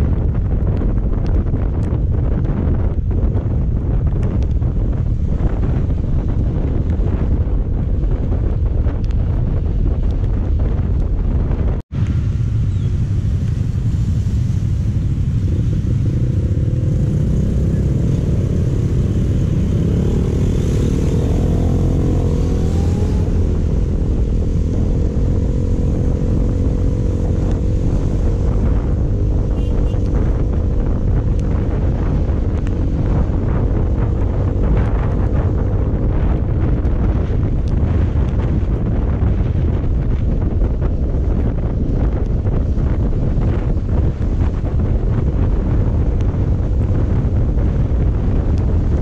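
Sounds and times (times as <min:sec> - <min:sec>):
motorcycle engine drone: 0:00.0 - 0:49.0
wind rushing over microphone: 0:00.0 - 0:49.0.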